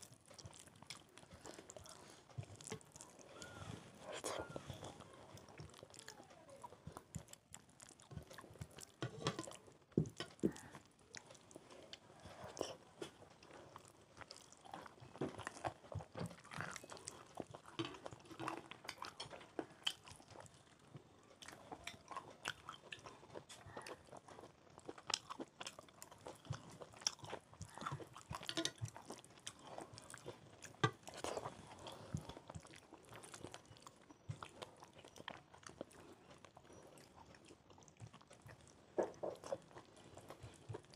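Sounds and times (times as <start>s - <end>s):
food crunching: 0.0s - 40.9s
people chewing food: 0.0s - 40.9s.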